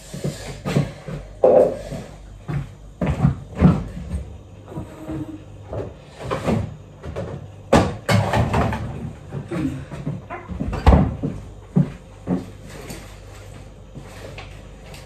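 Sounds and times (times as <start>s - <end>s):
packages knocking and clunking: 0.1s - 15.0s.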